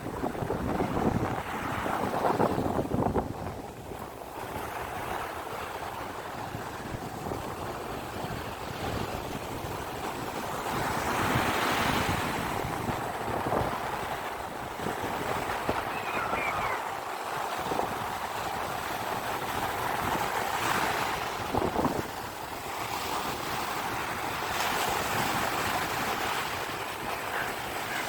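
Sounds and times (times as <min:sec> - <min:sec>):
sea waves breaking: 0:00.0 - 0:28.0
wind buffeting microphone: 0:00.0 - 0:28.0.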